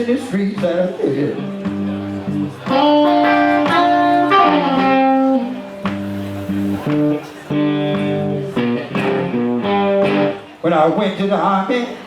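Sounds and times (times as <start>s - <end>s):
blues guitar playing: 0.0s - 10.7s.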